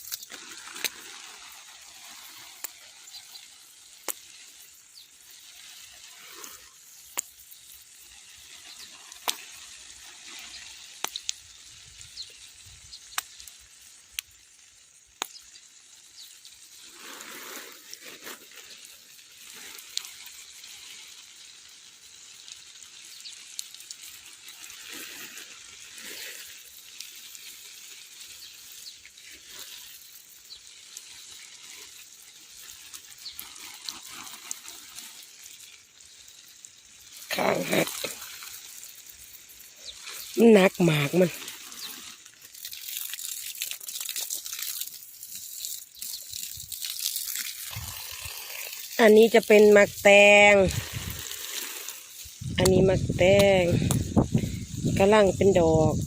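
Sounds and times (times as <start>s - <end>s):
water running and hissing: 0.0s - 56.0s.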